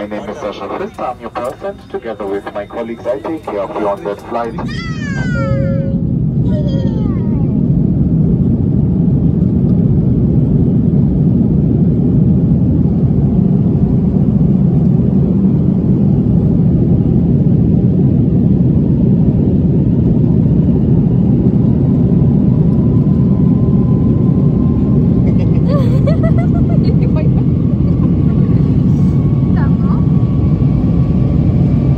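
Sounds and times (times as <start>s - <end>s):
airliner cabin engine rumble: 0.0s - 31.9s.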